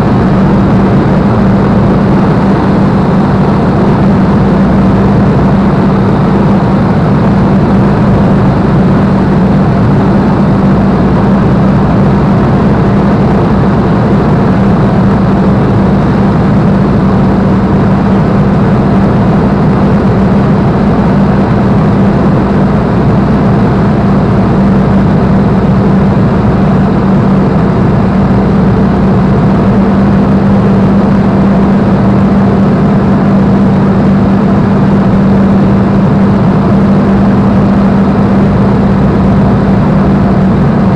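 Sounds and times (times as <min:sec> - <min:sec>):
plane engine droning: 0:00.0 - 0:40.9.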